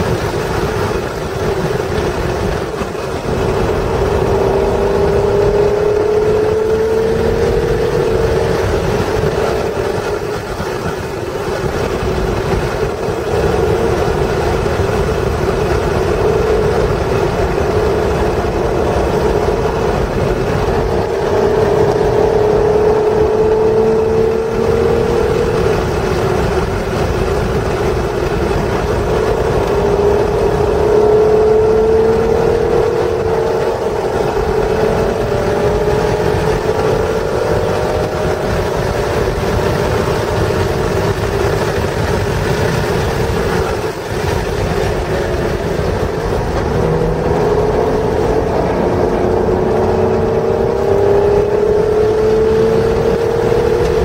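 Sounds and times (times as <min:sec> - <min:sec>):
car engine accelerating: 0:00.0 - 0:54.0
road and wind noise: 0:00.0 - 0:54.0.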